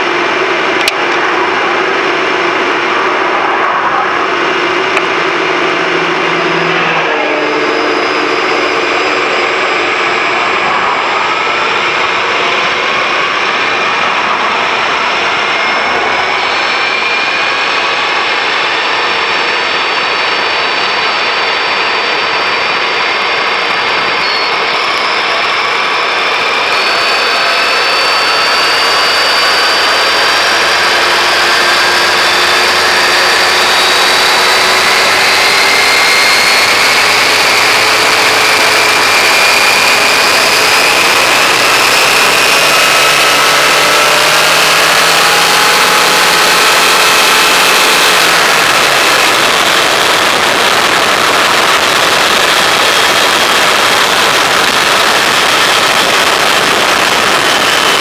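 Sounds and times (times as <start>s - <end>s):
high-pitched electric motor whine: 0.0s - 58.0s
loud rushing noise: 0.0s - 58.0s.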